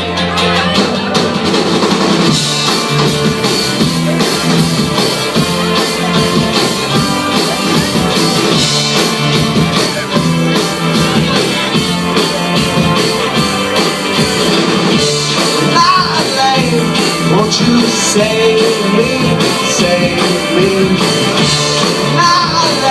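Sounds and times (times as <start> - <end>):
drum kit beat: 0.0 - 22.9
electric guitar: 0.0 - 22.9.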